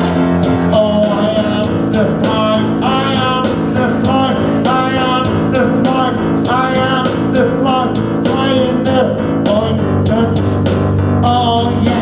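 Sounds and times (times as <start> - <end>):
man singing: 0.0 - 12.0
rock song with electric guitar: 0.0 - 12.0.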